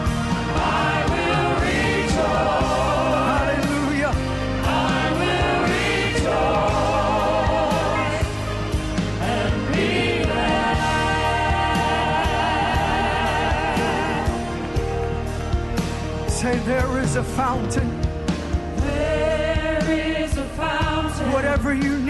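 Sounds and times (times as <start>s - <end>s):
choir singing with vibrato: 0.0s - 16.2s, 18.7s - 22.0s
band accompaniment: 0.0s - 22.0s.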